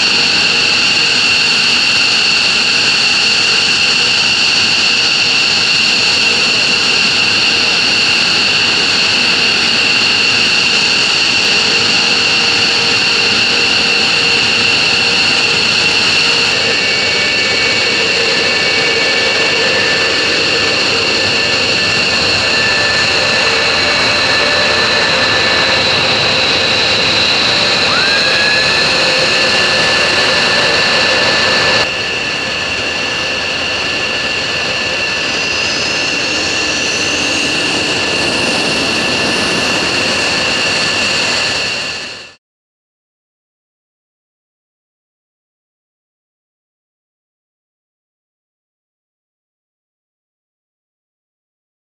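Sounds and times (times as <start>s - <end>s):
jet engines idling roar and whine: 0.0s - 42.4s.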